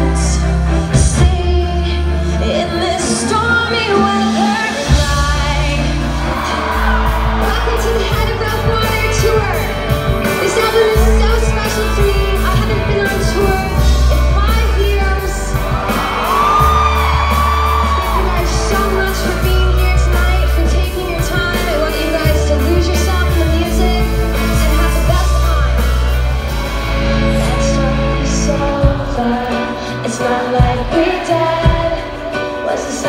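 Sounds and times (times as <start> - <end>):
woman singing lead: 0.0 - 26.3, 27.1 - 33.0
live rock band playing: 0.0 - 33.0.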